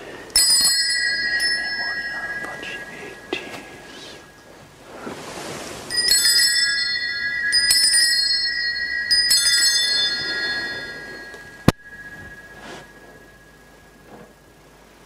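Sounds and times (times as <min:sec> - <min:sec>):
bell ringing: 0:00.0 - 0:04.4, 0:05.9 - 0:14.6.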